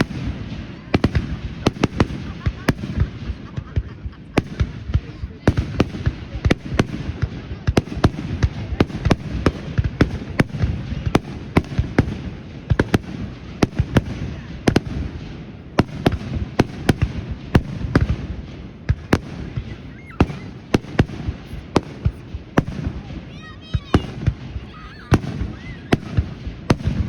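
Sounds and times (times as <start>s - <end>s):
fireworks bangs: 0.0s - 27.0s
low rumble of explosions: 0.0s - 27.0s.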